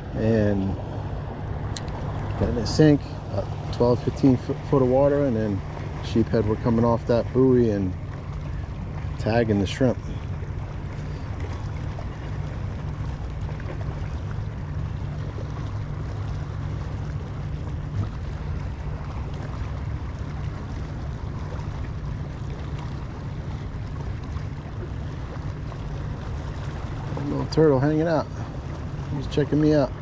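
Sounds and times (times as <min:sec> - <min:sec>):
water washing around boat: 0:00.0 - 0:30.0
wind rumble on microphone: 0:00.0 - 0:30.0.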